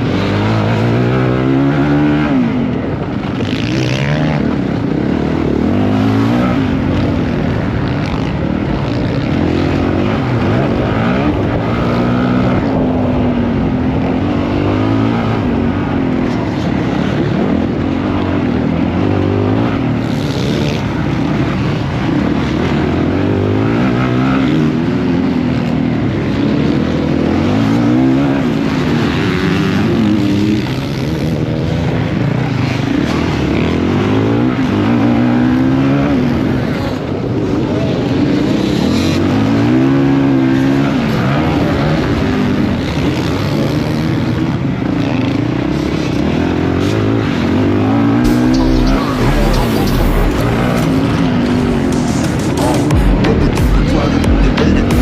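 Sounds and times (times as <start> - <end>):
motocross bike engine racing: 0.0 - 55.0.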